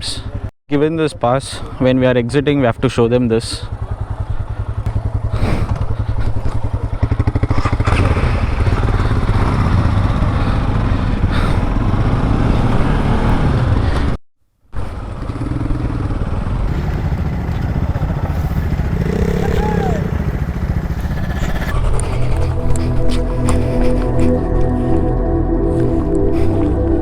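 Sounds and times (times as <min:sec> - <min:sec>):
road and wind noise: 0:01.4 - 0:27.0
motorcycle engine running: 0:01.6 - 0:14.2, 0:14.8 - 0:27.0.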